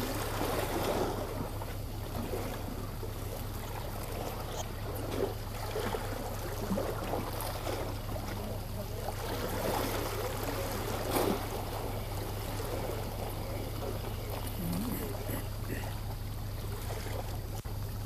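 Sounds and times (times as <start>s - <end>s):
low hum: 0.0s - 18.0s
water lapping and sloshing: 0.0s - 18.0s.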